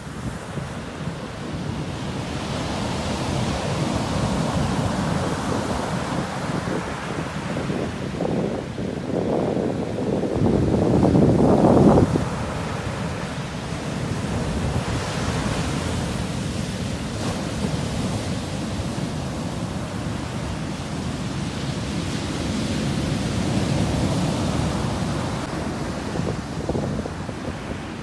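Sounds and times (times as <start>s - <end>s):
sea waves washing on shore: 0.0s - 28.0s.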